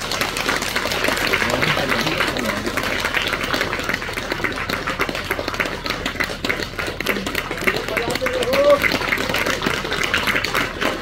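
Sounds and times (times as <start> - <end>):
crowd clapping: 0.0 - 11.0
voices: 0.9 - 11.0.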